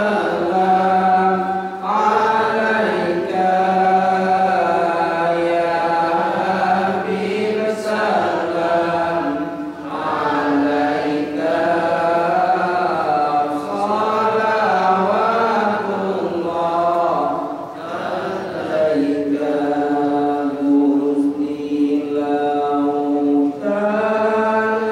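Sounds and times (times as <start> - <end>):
man chanting into microphone: 0.0 - 24.9.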